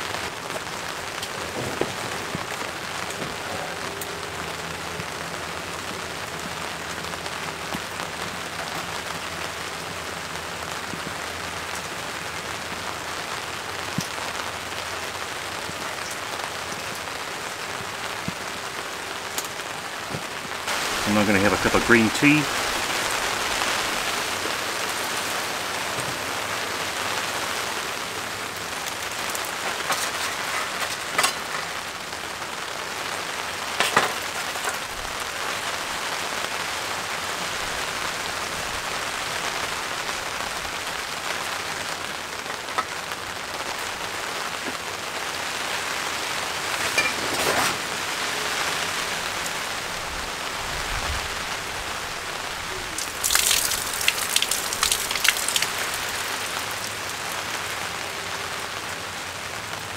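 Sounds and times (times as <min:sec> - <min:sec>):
rain on a tarp: 0:00.0 - 0:59.9.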